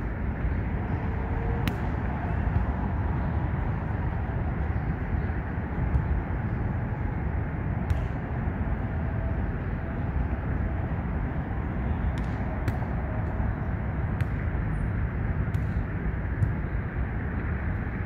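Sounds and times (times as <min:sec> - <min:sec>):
low rumble of traffic: 0:00.0 - 0:18.0.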